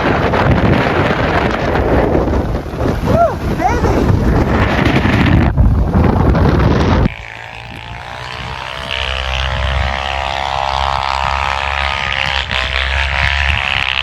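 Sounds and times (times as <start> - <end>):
steady engine drone: 0.0 - 14.0
wind buffeting microphone: 0.0 - 14.0.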